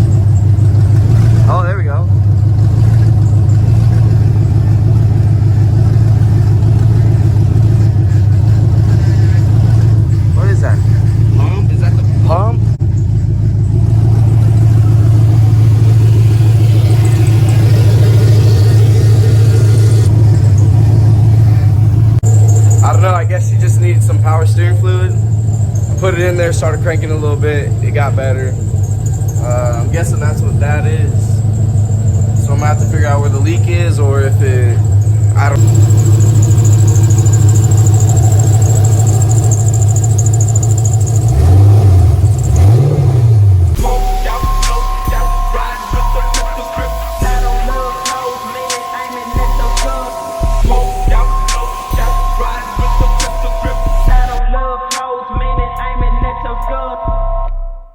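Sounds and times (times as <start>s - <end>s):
power steering pump noise: 0.0s - 55.0s
car engine running: 0.0s - 57.9s.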